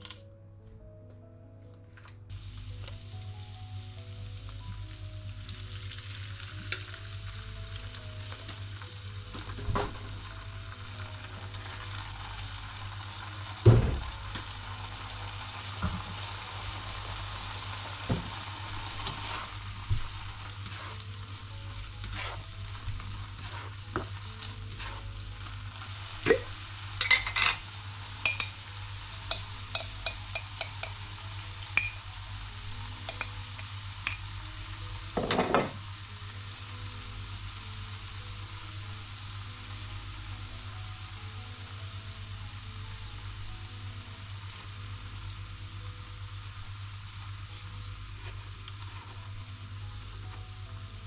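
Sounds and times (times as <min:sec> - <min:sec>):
food sizzling in a pan: 0:02.3 - 0:51.0.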